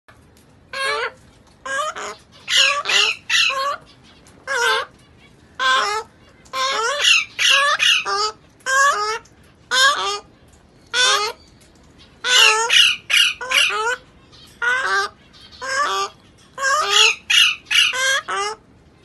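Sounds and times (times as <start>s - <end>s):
parrot chicks calling: 0.7s - 19.0s.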